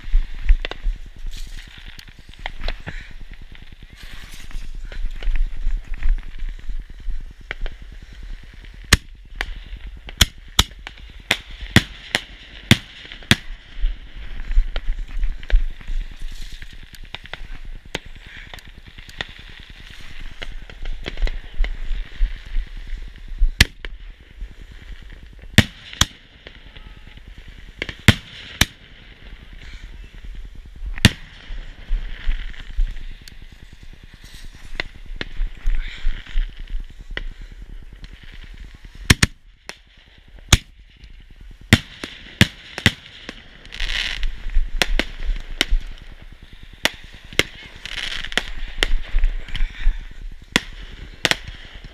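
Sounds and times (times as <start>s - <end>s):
fireworks bangs and pops: 0.0s - 51.9s.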